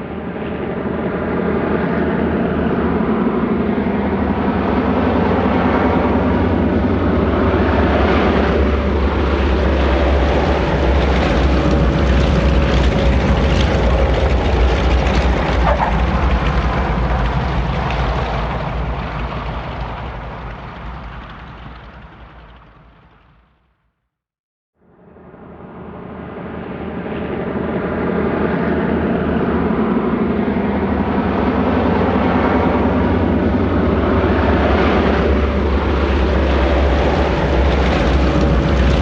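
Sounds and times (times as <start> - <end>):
propeller airplane engine drone: 0.0 - 23.5, 24.9 - 39.0.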